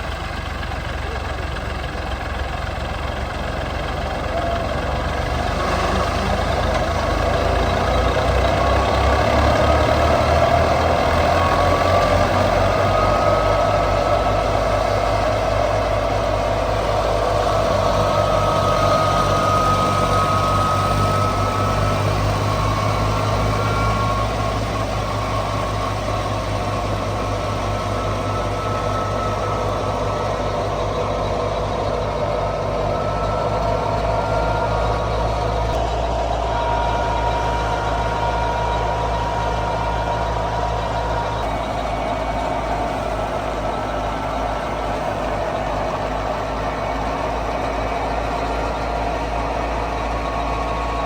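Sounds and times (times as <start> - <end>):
tractor diesel engine running: 0.0 - 51.0
thresher whirring: 4.3 - 51.0.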